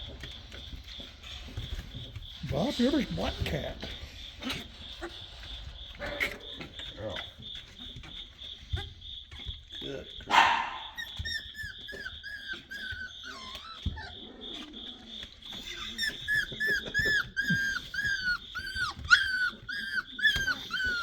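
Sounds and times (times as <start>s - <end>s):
puppies whining and squealing: 0.0s - 21.0s.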